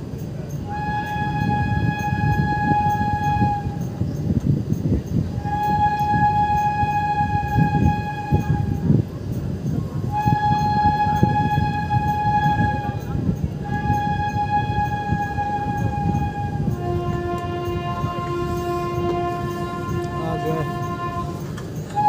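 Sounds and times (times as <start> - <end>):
train wheels clattering on rails: 0.0 - 22.0
train horn blasts: 0.6 - 4.3, 5.3 - 9.1, 10.0 - 22.0.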